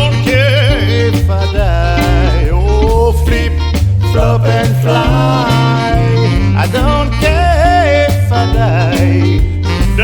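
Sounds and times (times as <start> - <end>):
song with singing voice and beat: 0.0 - 10.0.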